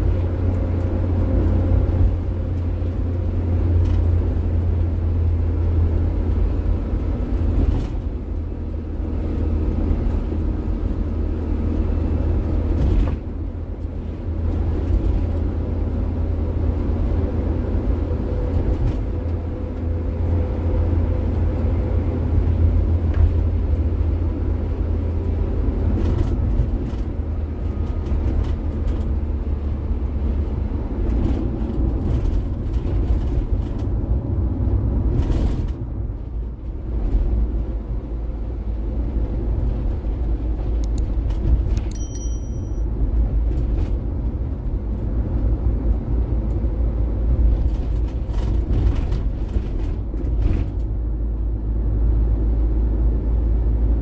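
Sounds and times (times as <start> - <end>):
van engine and road rumble: 0.0 - 54.0.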